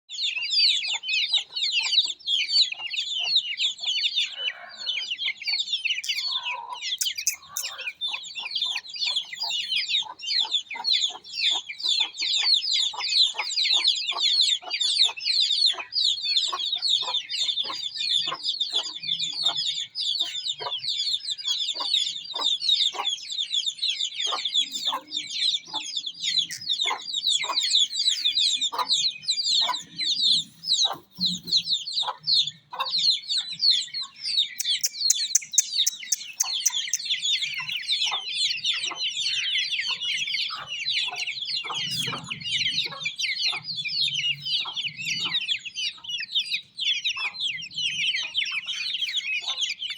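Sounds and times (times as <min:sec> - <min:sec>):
chicks peeping: 0:00.1 - 0:49.9.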